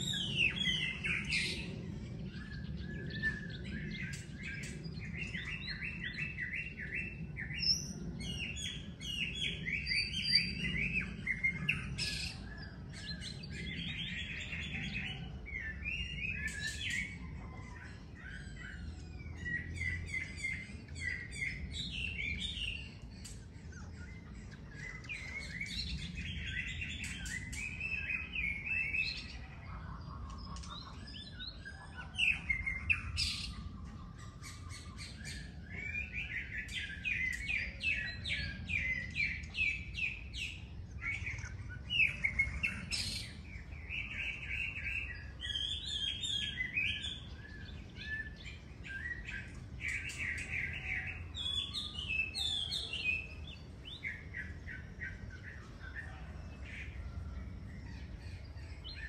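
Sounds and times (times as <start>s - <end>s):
birds chirping in chorus: 0.0s - 59.0s.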